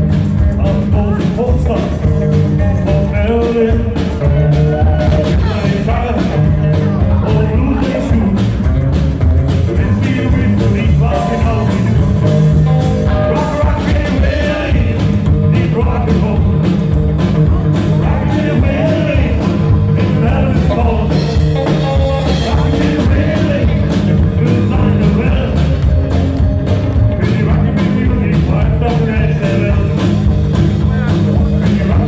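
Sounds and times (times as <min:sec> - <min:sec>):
rockabilly band playing: 0:00.0 - 0:32.0
steady drum beat: 0:00.0 - 0:32.0.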